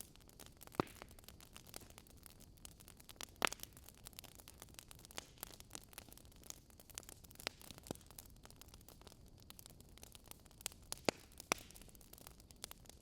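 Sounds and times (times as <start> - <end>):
burning wood popping: 0.0 - 13.0
campfire crackling: 0.0 - 13.0.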